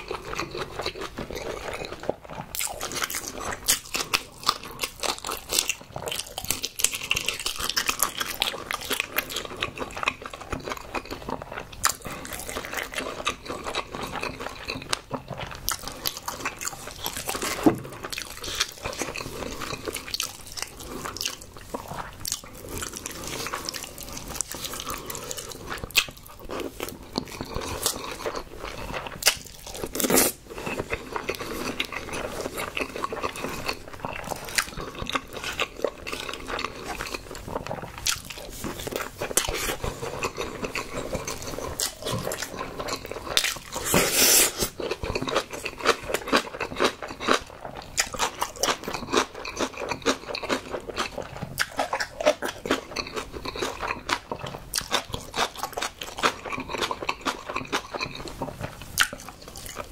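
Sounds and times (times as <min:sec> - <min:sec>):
close chewing with wet smacks: 0:00.0 - 0:44.0, 0:44.6 - 0:59.9.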